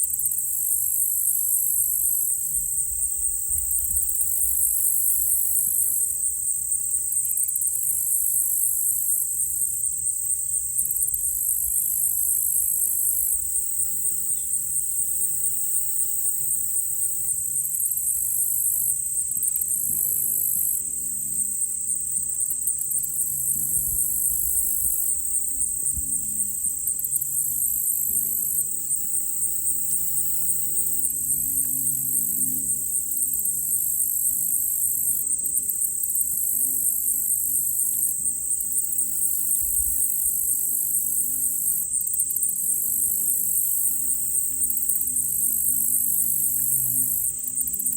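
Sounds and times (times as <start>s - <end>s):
crickets and insects trilling: 0.0s - 47.9s
distant propeller plane drone: 0.0s - 47.9s.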